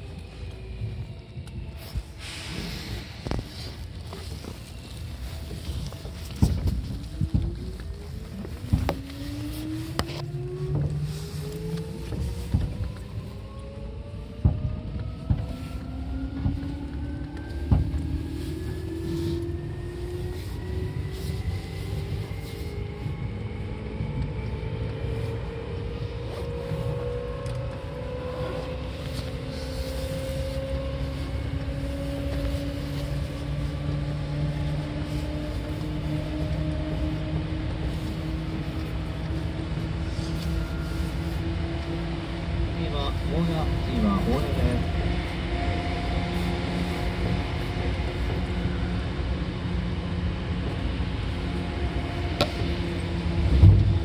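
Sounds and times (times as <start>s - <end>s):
train running rumble: 0.0s - 54.0s
train traction motor whine: 0.0s - 54.0s.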